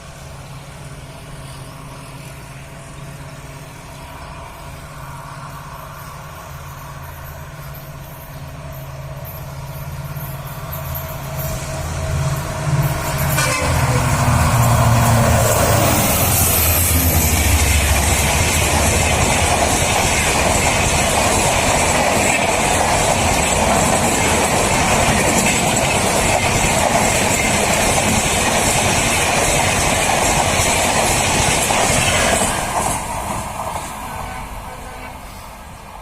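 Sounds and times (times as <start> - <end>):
train rushing past on rails: 0.0 - 36.0.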